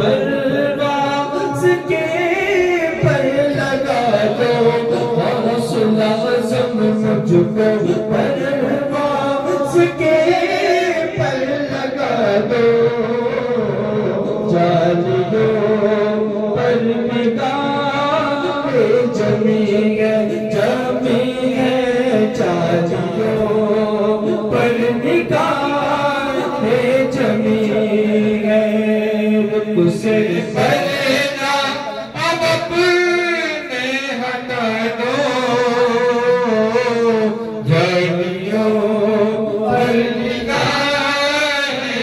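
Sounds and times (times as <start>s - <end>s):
man chanting into a microphone: 0.0s - 42.0s.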